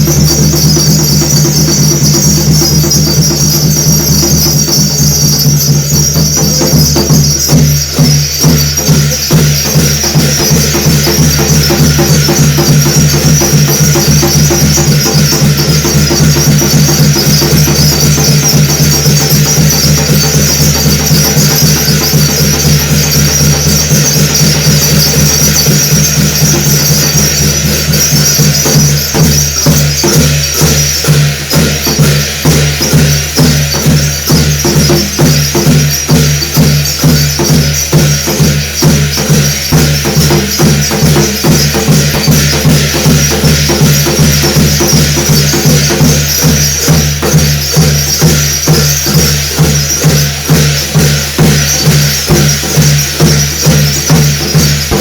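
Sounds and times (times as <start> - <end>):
drum and percussion beat: 0.0 - 55.0
shimmering ring: 0.0 - 55.0.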